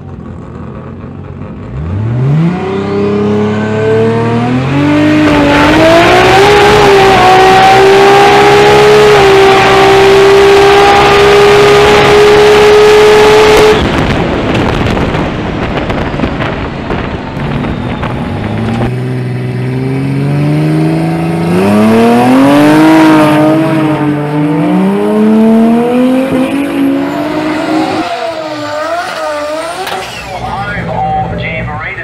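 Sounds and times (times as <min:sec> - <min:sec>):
race car engine at full throttle: 0:00.0 - 0:32.0
engine revving up and down: 0:00.8 - 0:15.3, 0:17.0 - 0:31.3.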